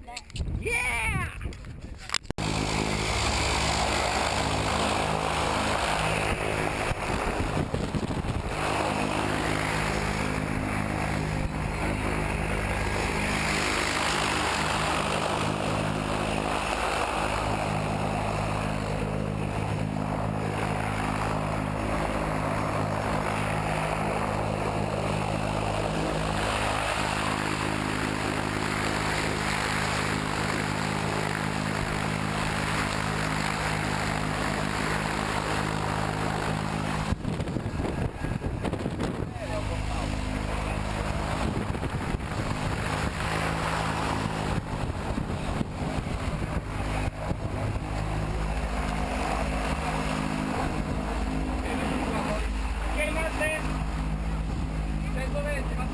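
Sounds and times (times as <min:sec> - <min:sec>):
propeller plane engine running: 0:01.3 - 0:55.9.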